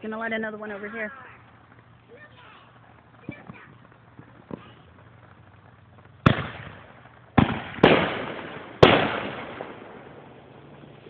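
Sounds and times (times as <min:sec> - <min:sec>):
fireworks bangs echoing: 0:00.0 - 0:11.0.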